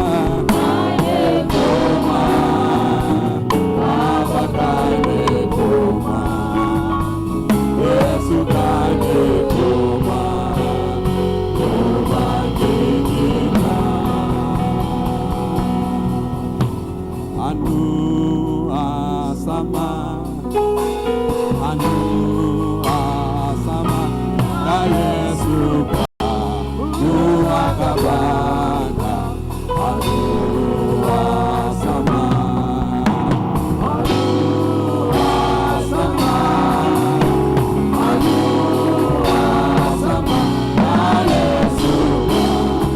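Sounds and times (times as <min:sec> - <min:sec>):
gospel singing with band: 0:00.0 - 0:42.9
steady bass notes: 0:00.0 - 0:42.9.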